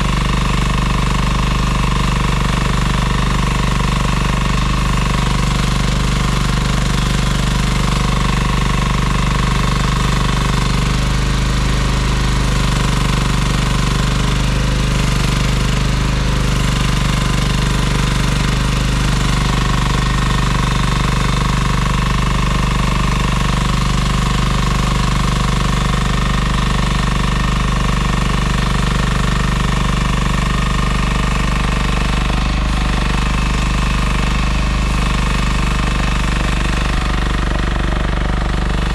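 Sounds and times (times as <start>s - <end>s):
excavator engine with rattly knock: 0.0s - 38.9s.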